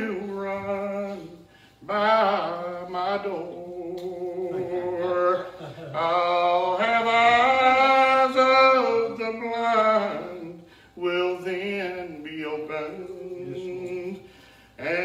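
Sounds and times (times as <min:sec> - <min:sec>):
man chanting a sermon: 0:00.0 - 0:14.2.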